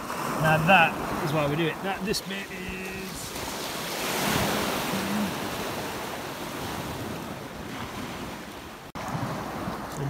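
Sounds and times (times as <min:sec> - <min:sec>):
waves washing over pebbles: 0:00.0 - 0:10.0.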